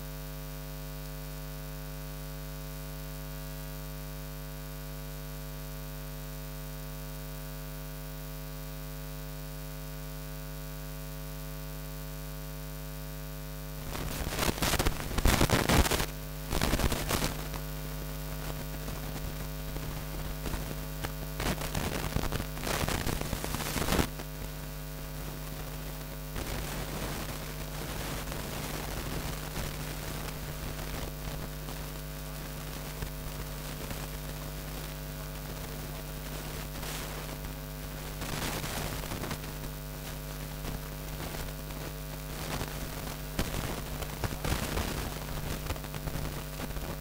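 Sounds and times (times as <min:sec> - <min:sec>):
electrical mains hum: 0:00.0 - 0:47.0.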